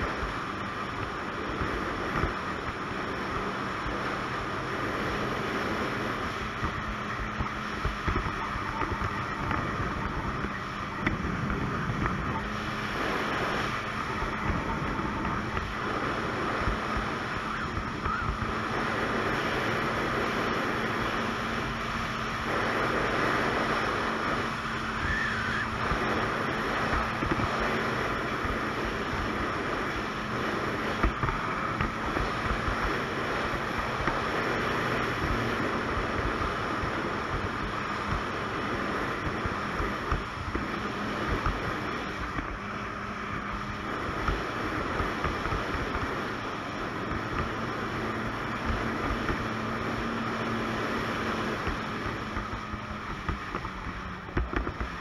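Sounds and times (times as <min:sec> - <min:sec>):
snowmobile engine cruising: 0:00.0 - 0:55.0
wind on microphone: 0:00.0 - 0:55.0.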